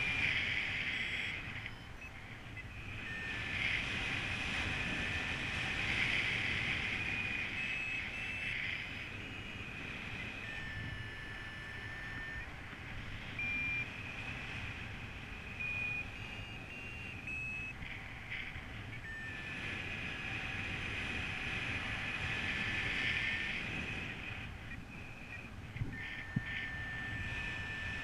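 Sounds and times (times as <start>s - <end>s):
variometer short rising beeps: 0.0s - 14.7s, 15.3s - 28.0s
variometer low falling tone: 0.0s - 28.0s.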